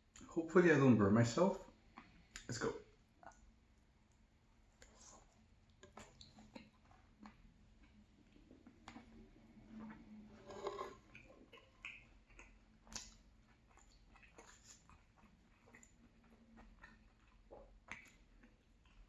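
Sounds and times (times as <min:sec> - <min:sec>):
person chewing food: 0:01.7 - 0:19.0.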